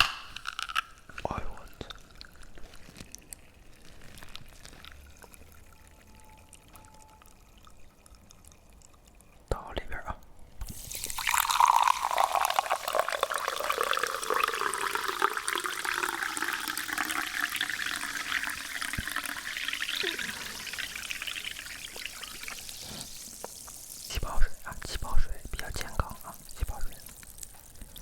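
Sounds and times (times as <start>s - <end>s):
drink pouring into a glass: 0.0s - 9.5s, 10.6s - 28.0s.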